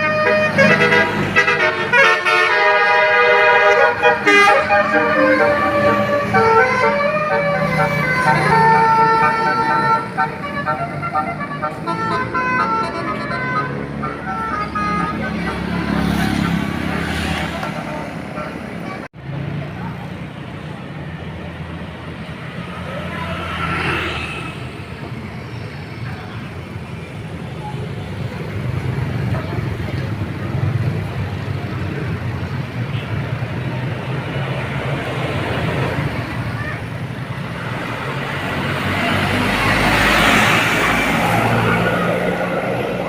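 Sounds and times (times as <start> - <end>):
bus passing: 0.0 - 43.0
low rumble of traffic: 0.0 - 43.0.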